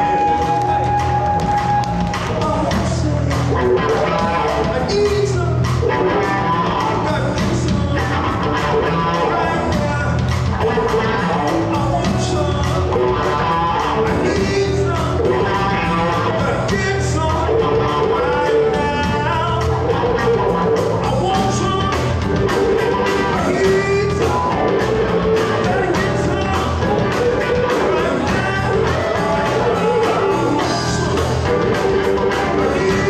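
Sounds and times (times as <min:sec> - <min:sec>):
bass guitar: 0:00.0 - 0:33.0
electric guitars: 0:00.0 - 0:33.0.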